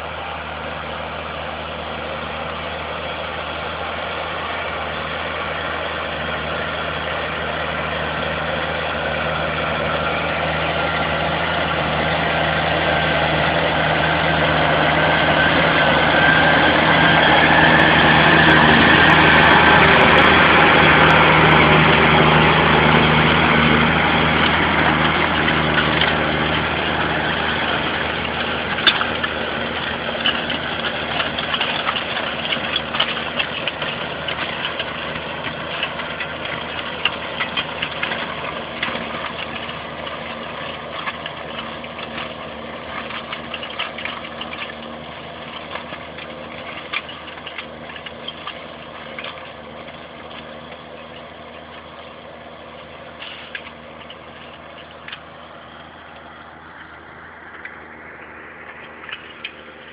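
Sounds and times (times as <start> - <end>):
tractor engine running: 0.0 - 59.9
clanks and rattles: 8.0 - 52.2, 53.1 - 55.5, 57.4 - 59.9.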